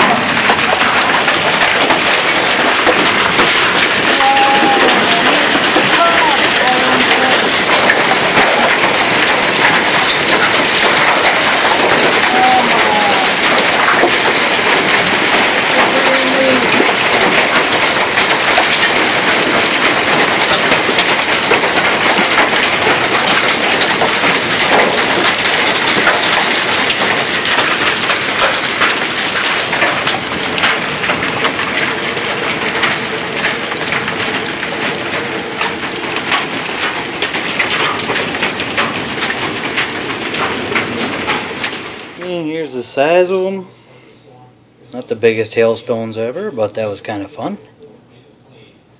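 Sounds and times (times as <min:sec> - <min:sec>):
hailstones ticking: 0:00.0 - 0:43.6
heavy rain and hail pelting: 0:00.0 - 0:43.6.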